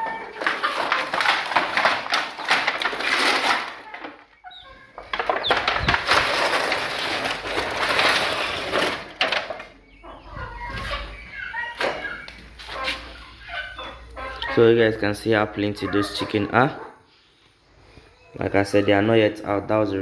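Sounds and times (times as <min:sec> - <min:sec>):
chickens calling and clucking: 0:00.0 - 0:20.0.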